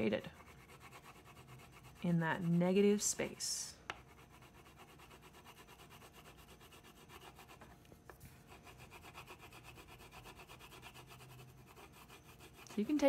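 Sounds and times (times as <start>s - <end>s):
crayon scrubbing on paper: 0.0s - 7.7s, 8.5s - 13.0s.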